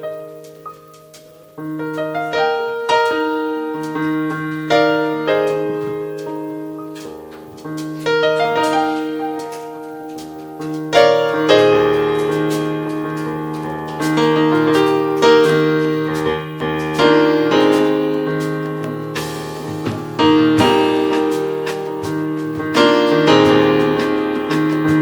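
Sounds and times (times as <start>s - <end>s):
piano playing slow chords: 0.0s - 25.0s.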